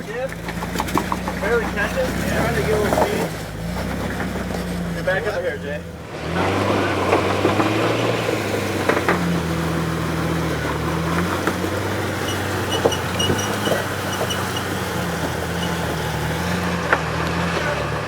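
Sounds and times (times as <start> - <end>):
knocks and clicks from rocks: 0.0 - 5.3, 6.6 - 17.7
off-road vehicle engine at low revs: 0.0 - 18.0.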